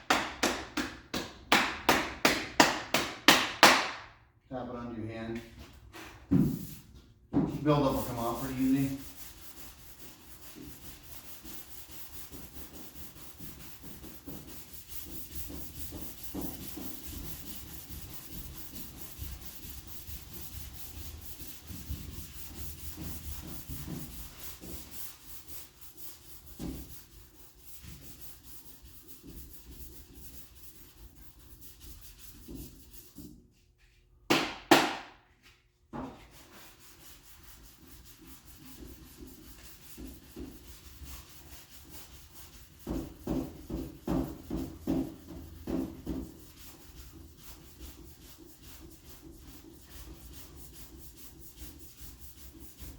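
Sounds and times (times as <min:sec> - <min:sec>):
sanding block rasping on primer: 0:06.4 - 0:06.9, 0:07.5 - 0:33.3, 0:36.1 - 0:52.9.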